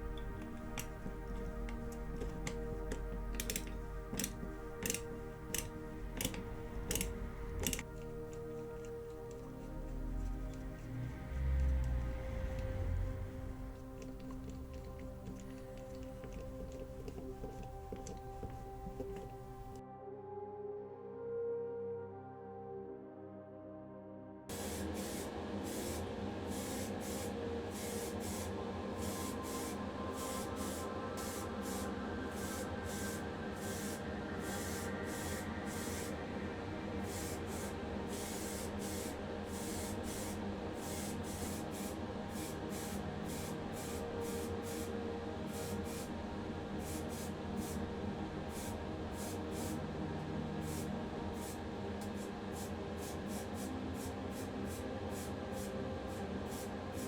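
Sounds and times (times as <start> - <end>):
spray can hissing in bursts: 0.0 - 19.8, 24.5 - 36.2, 37.0 - 44.9, 45.5 - 46.2, 46.8 - 47.8, 48.5 - 49.8, 50.6 - 57.0.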